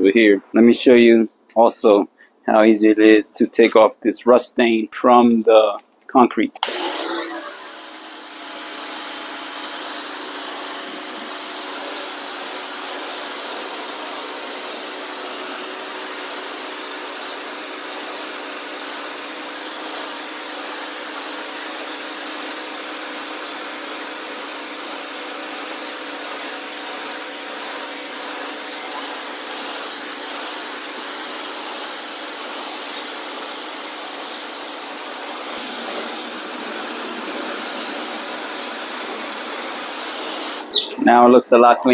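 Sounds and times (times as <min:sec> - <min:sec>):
water jet hissing on concrete: 0:06.6 - 0:40.9
pressure washer motor hum: 0:06.6 - 0:41.0.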